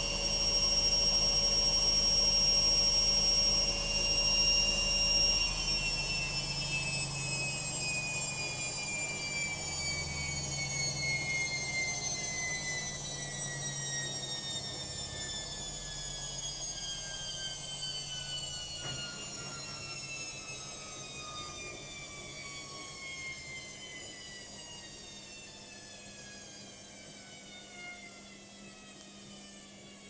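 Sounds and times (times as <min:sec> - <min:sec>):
washing machine motor whine: 0:00.0 - 0:30.0.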